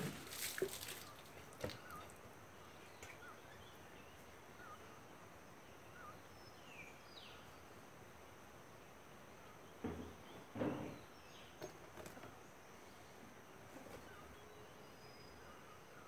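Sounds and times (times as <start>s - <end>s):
distant bird chirps: 1.0s - 7.8s, 8.8s - 16.0s.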